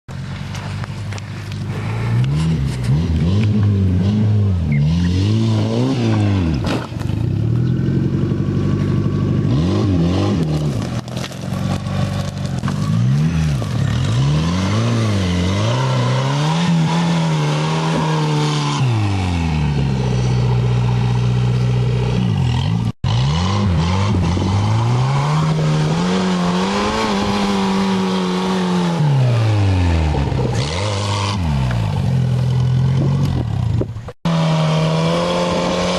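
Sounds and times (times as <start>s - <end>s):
buggy engine revving: 0.1s - 35.9s.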